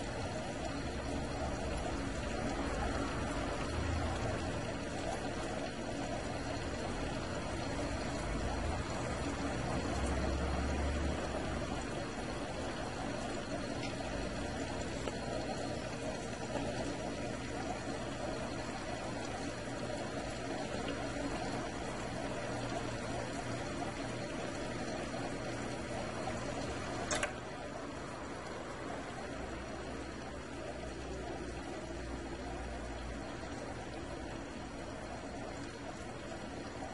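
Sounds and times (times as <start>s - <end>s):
water running through siphon: 0.0s - 36.9s.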